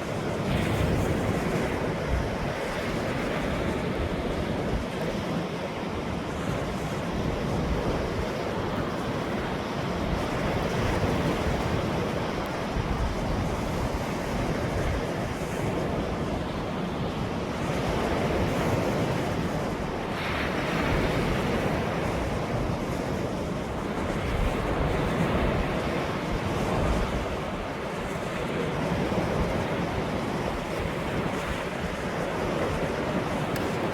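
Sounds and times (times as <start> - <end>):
ocean waves washing in: 0.0 - 33.9
wind buffeting microphone: 0.0 - 33.9.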